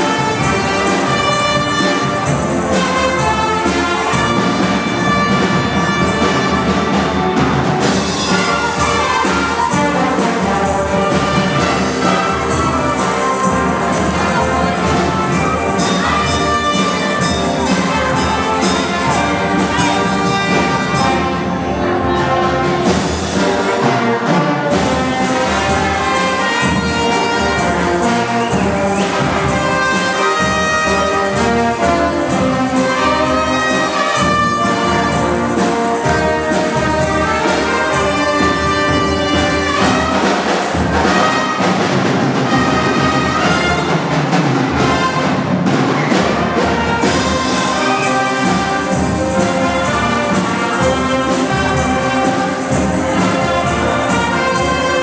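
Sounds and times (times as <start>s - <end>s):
wind band playing with brass: 0.0s - 55.0s.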